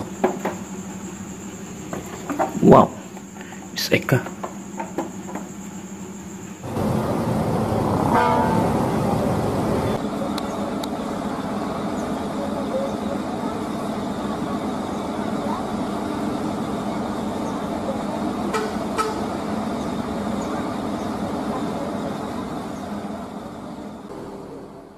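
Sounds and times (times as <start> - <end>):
bus diesel engine humming: 0.0 - 24.9.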